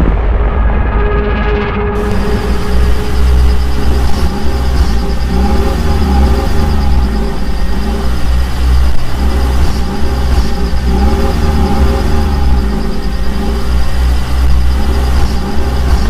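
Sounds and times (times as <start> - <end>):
engine running loudly: 0.0 - 16.0.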